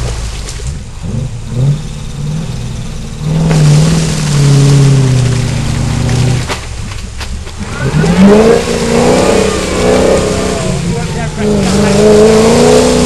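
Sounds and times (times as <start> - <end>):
engine revving: 0.0 - 6.7, 7.5 - 13.0.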